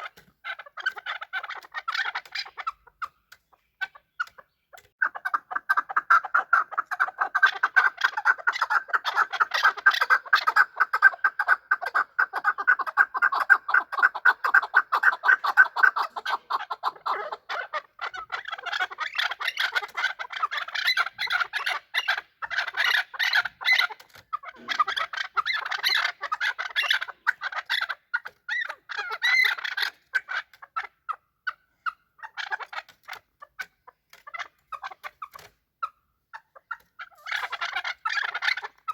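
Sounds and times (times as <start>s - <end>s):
partridge clucking calls: 0.0s - 38.9s.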